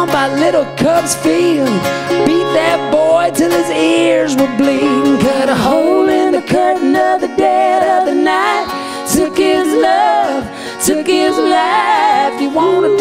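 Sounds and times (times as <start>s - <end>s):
acoustic guitar strumming: 0.0s - 13.0s
ukulele strumming: 0.0s - 13.0s
woman singing: 0.0s - 13.0s.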